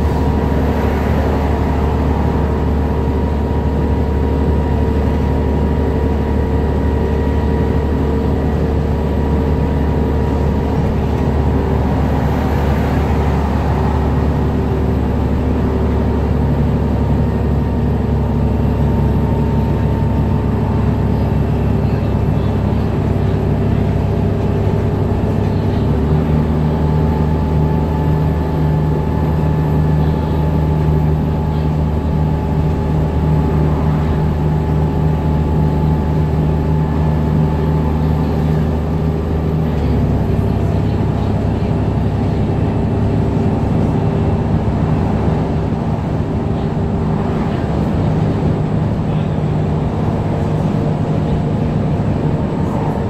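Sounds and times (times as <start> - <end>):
bus engine low drone: 0.0 - 53.0.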